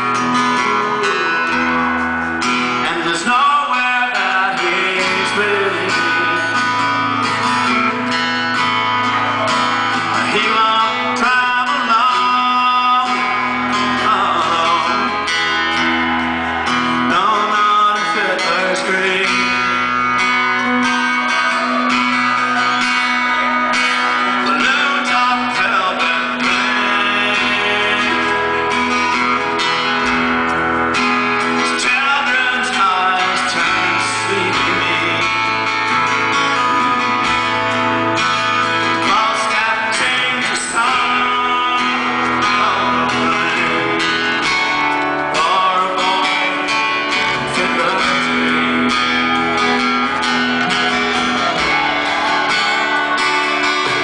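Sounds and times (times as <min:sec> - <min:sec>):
man singing: 0:00.0 - 0:08.2, 0:09.1 - 0:30.3, 0:31.0 - 0:54.0
strummed acoustic guitar: 0:00.0 - 0:54.0.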